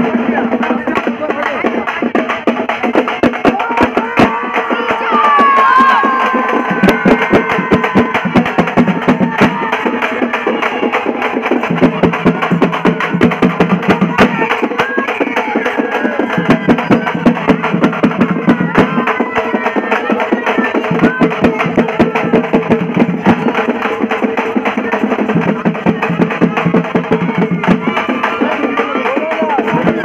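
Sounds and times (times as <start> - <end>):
loud dance music: 3.5 - 30.0.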